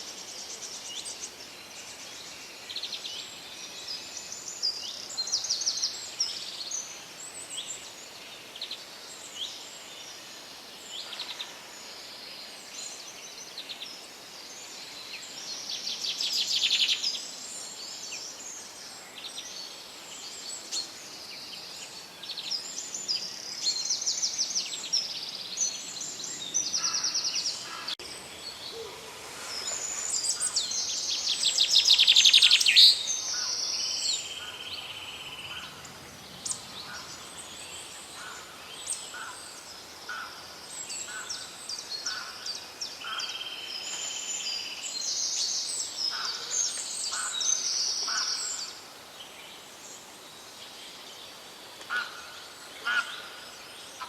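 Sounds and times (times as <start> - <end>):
faint steady hiss: 0.0 - 54.0
songbirds singing and trilling: 0.0 - 54.0.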